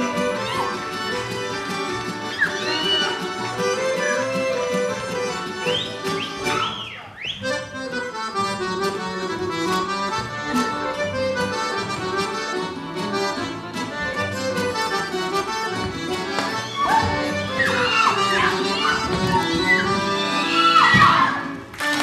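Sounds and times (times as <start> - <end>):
accordions playing folk dance tune: 0.0 - 22.0.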